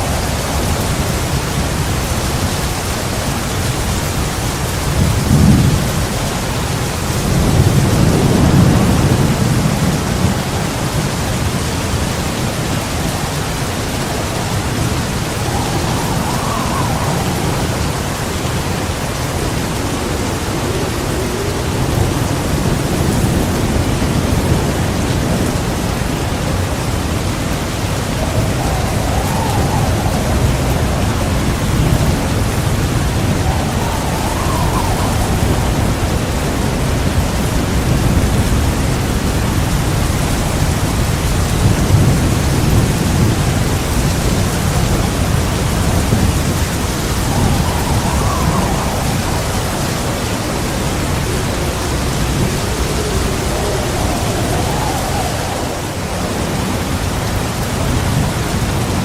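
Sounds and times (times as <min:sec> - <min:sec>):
heavy rain: 0:00.0 - 0:59.0
thunder rolling: 0:00.0 - 0:59.0
wind gust whistling: 0:00.0 - 0:59.0.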